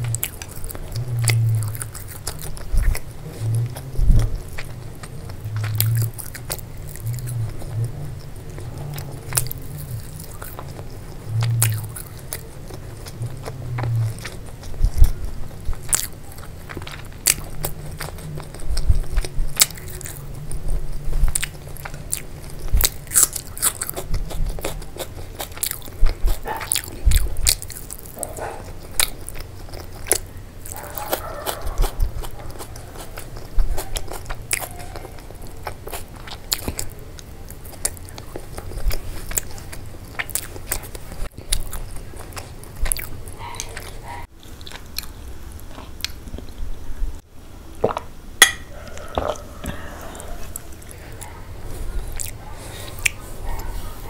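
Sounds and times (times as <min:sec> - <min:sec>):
chewing crunchy food: 0:00.0 - 0:46.9, 0:47.8 - 0:54.0.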